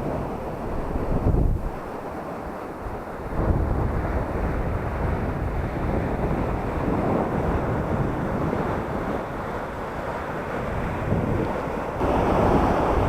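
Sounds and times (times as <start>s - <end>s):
surf washing onto sandy beach: 0.0s - 13.0s
wind buffeting microphone: 0.0s - 13.0s.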